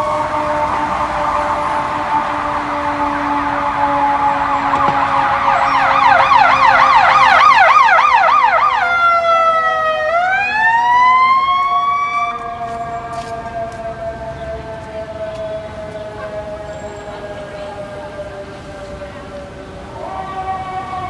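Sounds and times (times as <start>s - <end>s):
electronic siren yelp and wail: 0.0s - 21.0s
lower siren tone: 0.0s - 21.0s.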